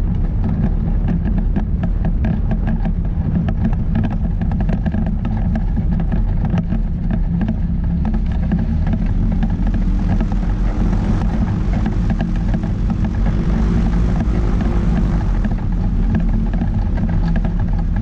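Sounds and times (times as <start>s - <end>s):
short crackles: 0.0s - 18.0s
ultralight engine and propeller drone: 0.0s - 18.0s.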